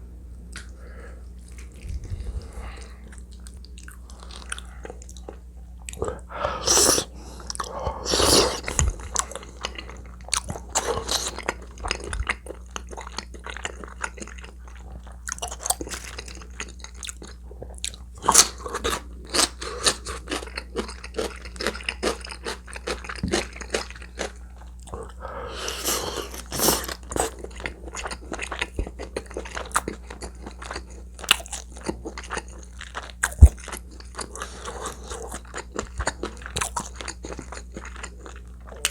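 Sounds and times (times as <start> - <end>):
person chewing and biting food: 0.5 - 38.9.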